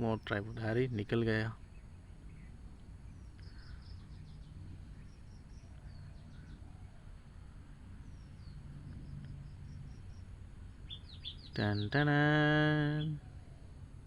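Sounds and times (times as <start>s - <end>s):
faint birds chirping: 0.0s - 14.0s
low steady hum: 0.0s - 14.0s.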